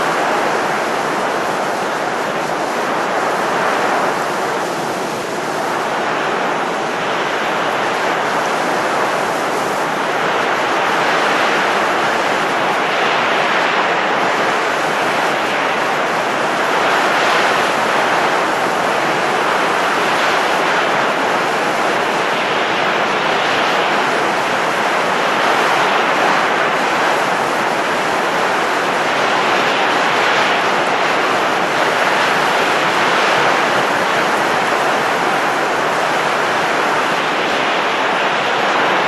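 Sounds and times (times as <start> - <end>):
wind blowing: 0.0 - 39.0.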